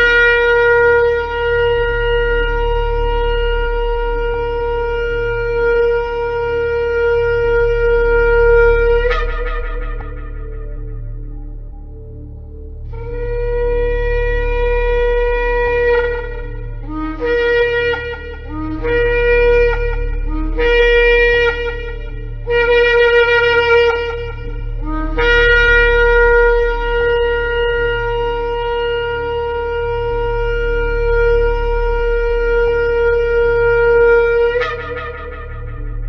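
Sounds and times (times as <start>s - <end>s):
shofar blasts: 0.0s - 11.9s, 12.9s - 36.0s.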